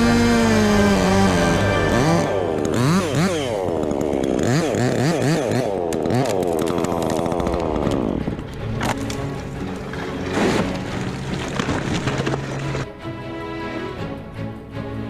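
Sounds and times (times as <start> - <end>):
chainsaw engine revving: 0.0 - 12.8.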